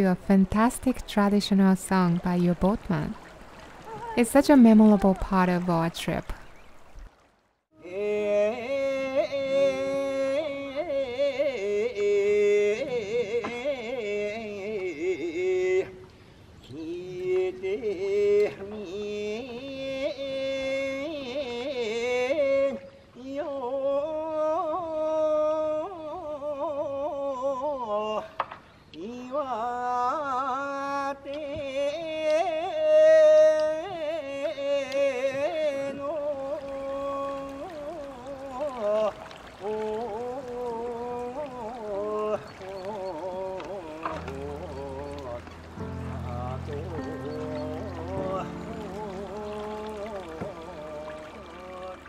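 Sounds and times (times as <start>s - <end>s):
man singing folk song: 7.8s - 16.1s, 16.7s - 28.4s, 29.0s - 52.0s.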